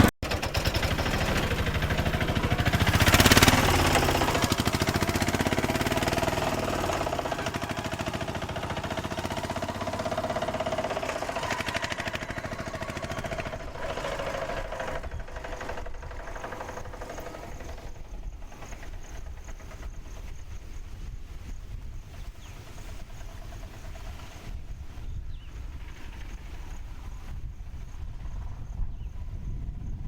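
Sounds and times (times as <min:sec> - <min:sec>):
engine rattling and humming: 0:00.0 - 0:30.0.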